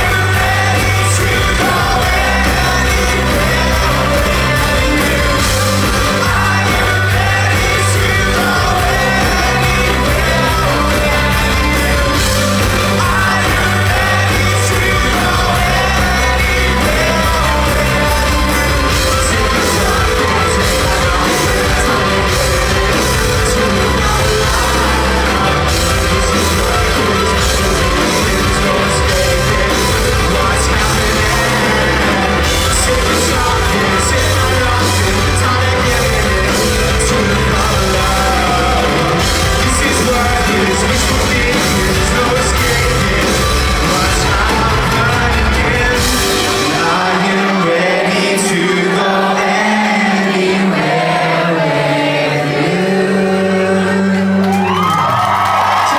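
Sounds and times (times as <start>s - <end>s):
audience yelling and singing along: 0.0s - 55.9s
live rock band playing: 0.0s - 55.9s.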